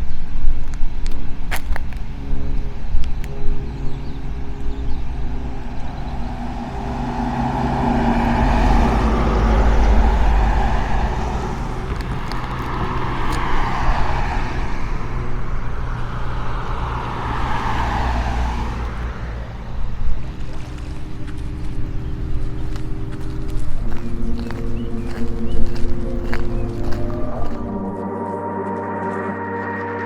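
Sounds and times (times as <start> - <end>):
vehicles passing on a road: 0.0 - 28.0
low engine hum: 0.0 - 28.1.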